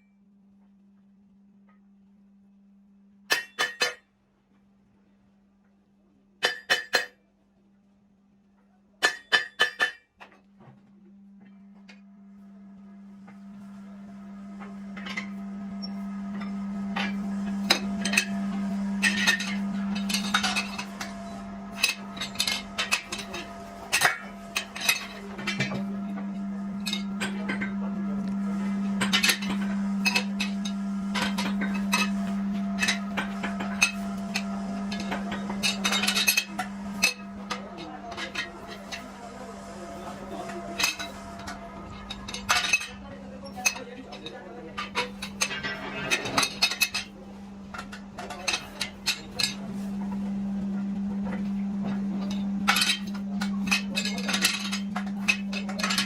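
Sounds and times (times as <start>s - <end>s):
steady low hum: 10.6s - 56.0s.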